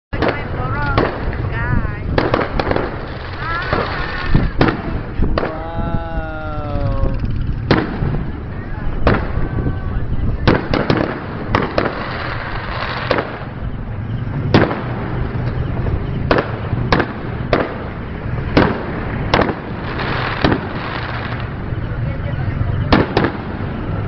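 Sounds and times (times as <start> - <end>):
fireworks bangs: 0.1 - 24.0
steady background din: 0.1 - 24.0.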